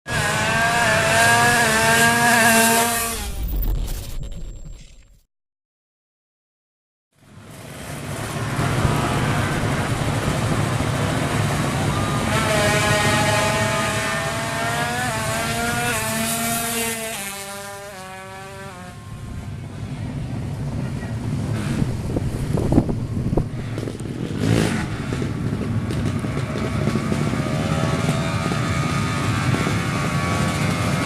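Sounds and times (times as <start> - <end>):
motorcycle accelerating through gears: 0.1 - 3.3, 7.2 - 31.0.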